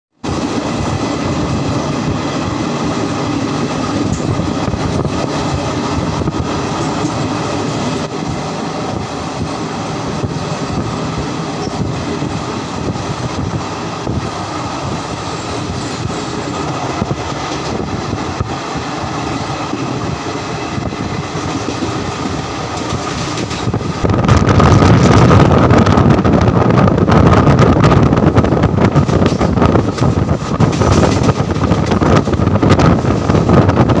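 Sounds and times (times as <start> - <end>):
train wheels clicking over rails: 0.2 - 34.0
wind buffeting microphone: 0.2 - 34.0.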